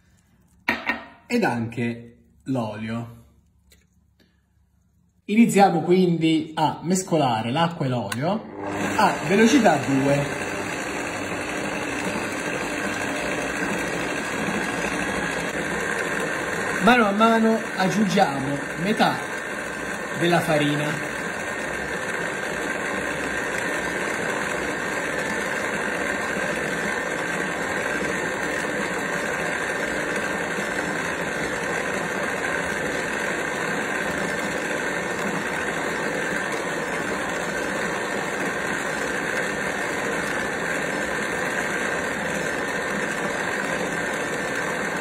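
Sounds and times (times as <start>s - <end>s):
stand mixer motor running: 6.9s - 45.0s.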